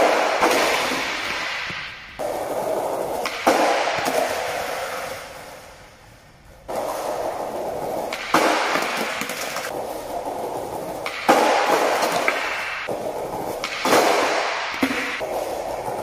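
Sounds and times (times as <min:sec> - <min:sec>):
skateboard wheels rolling on tiles: 0:00.0 - 0:16.0.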